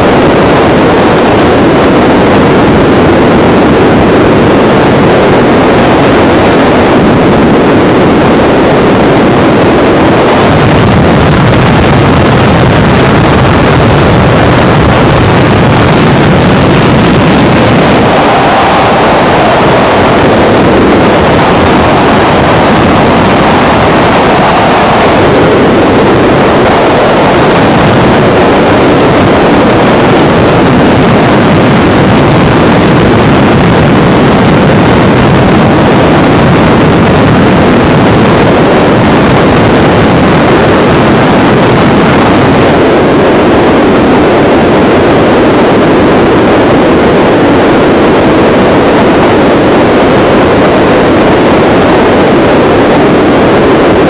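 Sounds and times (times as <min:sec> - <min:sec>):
helicopter rotor and engine noise: 0:00.0 - 0:54.0.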